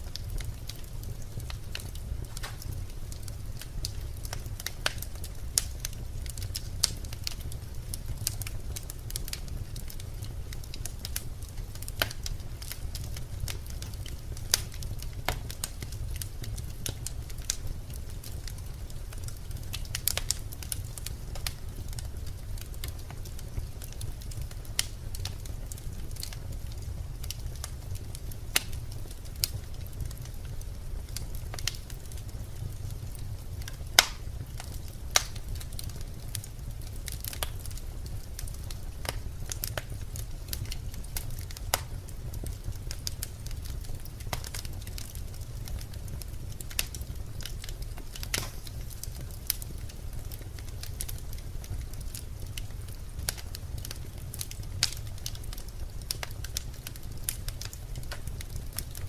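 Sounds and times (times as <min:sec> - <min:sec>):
logs crackling and popping: 0:00.0 - 0:59.0
low rumble of flames: 0:00.0 - 0:59.0.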